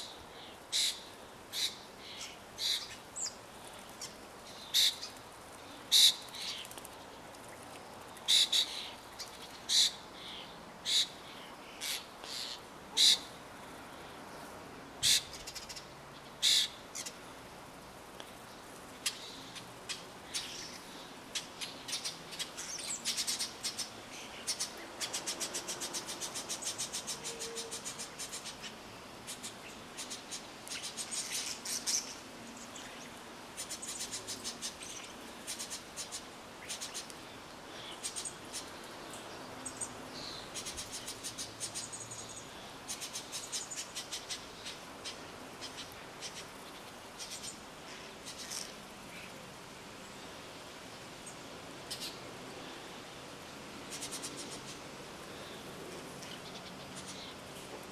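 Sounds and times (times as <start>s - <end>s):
birds ticking and chattering: 0.0s - 57.9s.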